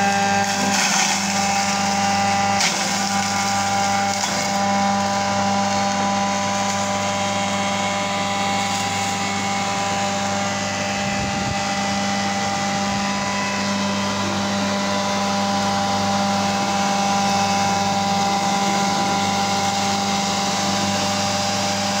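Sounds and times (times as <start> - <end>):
grinding machine motor hum: 0.0 - 22.0.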